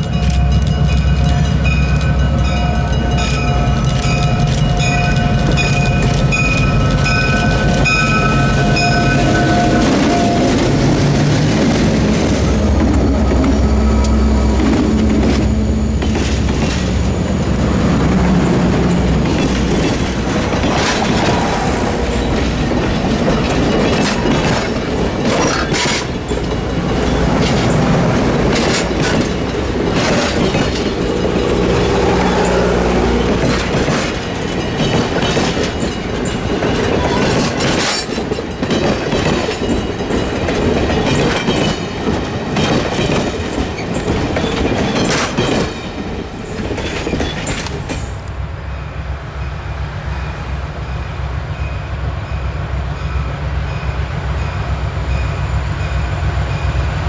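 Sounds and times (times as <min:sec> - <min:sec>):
train wheels clicking over rail joints: 0:00.0 - 0:48.4.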